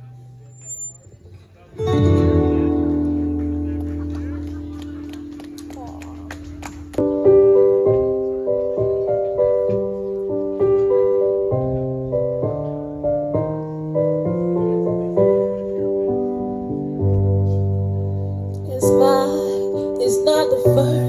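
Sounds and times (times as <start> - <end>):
slow piano keyboard music: 1.7 - 21.0.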